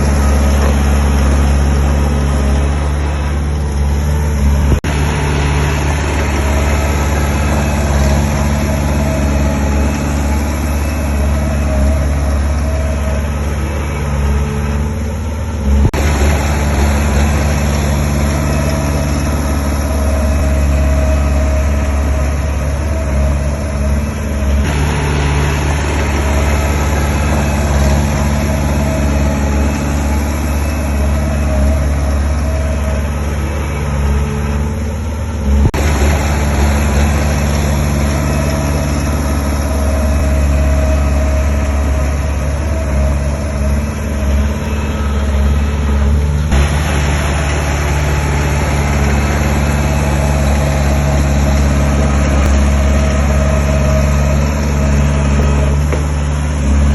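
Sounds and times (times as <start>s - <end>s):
heavy diesel engine humming: 0.0s - 56.9s.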